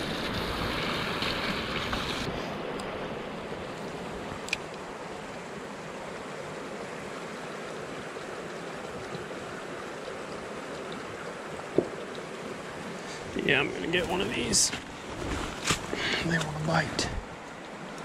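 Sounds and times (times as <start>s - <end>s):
creek water rushing over stones: 0.0s - 18.0s.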